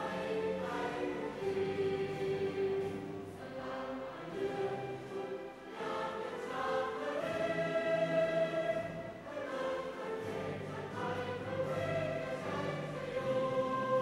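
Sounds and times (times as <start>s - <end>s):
choir singing with orchestra: 0.0s - 14.0s.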